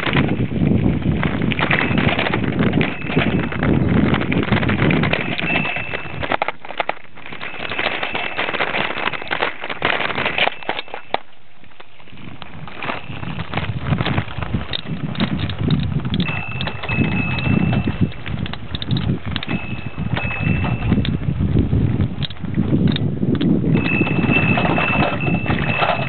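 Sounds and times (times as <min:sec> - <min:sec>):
bicycle rattling over dirt track: 0:00.0 - 0:26.0
wind rumbling on microphone: 0:00.0 - 0:26.0.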